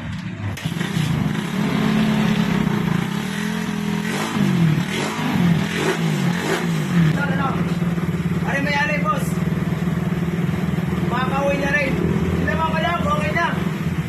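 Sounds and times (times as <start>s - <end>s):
motorcycle engine starting and revving: 0.0s - 14.0s.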